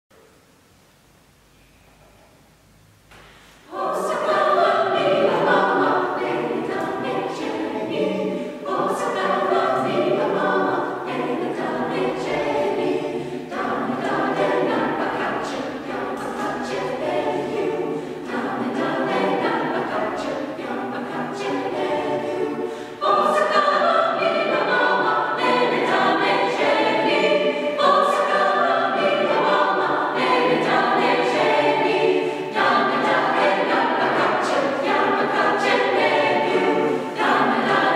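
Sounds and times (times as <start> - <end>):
choir singing a cappella: 3.4 - 37.9.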